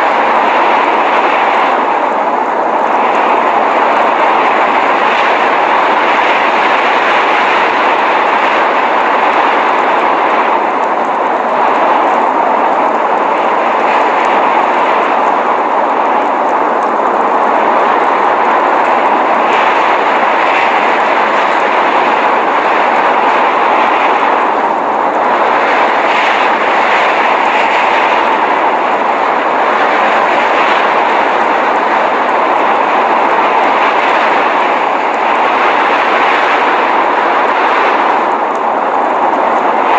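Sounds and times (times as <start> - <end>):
blizzard wind rushing: 0.0 - 39.9.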